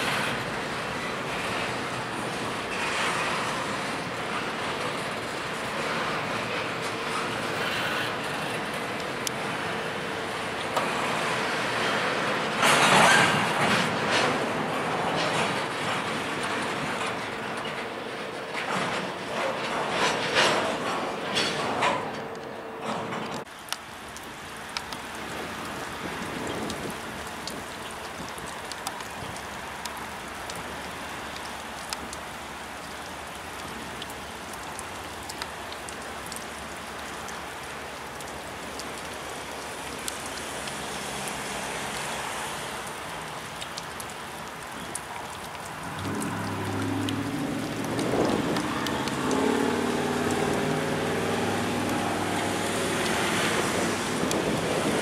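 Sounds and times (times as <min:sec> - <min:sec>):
raindrops ticking close by: 0:00.0 - 0:22.6, 0:23.2 - 0:55.0
locomotive diesel engines: 0:00.0 - 0:55.0
steady rain falling: 0:00.0 - 0:55.0.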